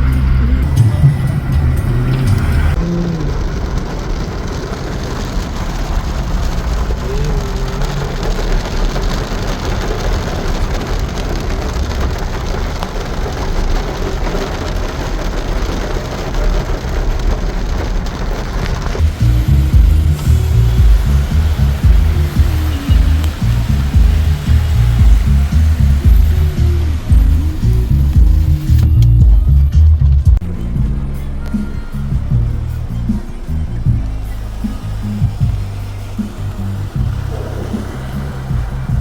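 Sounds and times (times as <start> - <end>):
low rumble: 0.0 - 13.4, 17.8 - 39.0
heavy rain falling: 0.0 - 39.0.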